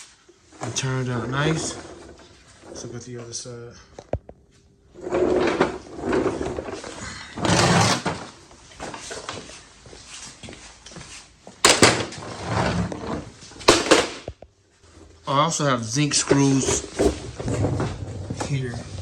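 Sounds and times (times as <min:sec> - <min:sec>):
rustling and handling noise: 0:00.0 - 0:15.3.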